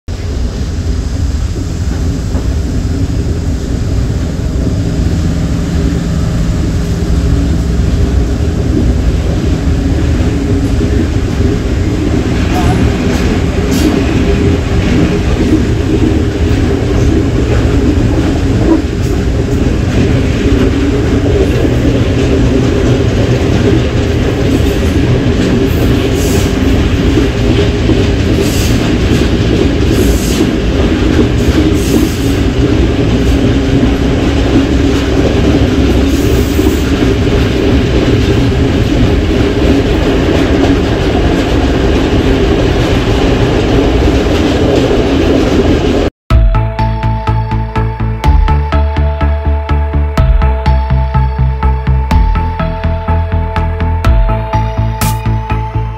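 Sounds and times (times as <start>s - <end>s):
train wheels rumbling on rails: 0.1s - 48.6s.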